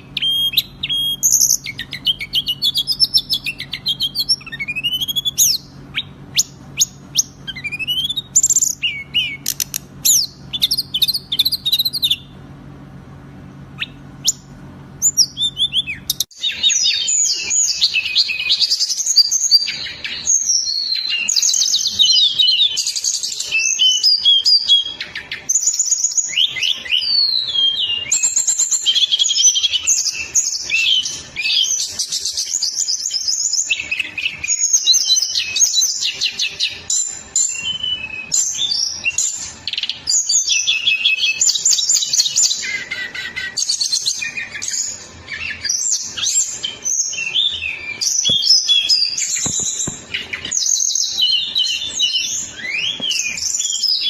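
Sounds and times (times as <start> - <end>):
songbird chirping and trilling: 0.0 - 12.8, 13.6 - 54.0.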